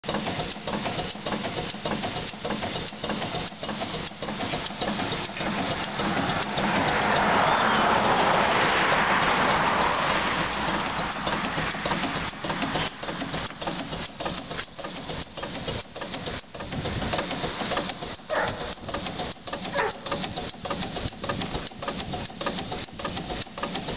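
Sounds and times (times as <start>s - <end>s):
steam engine exhaust beats: 0.0s - 23.9s
steam hissing: 0.1s - 23.9s.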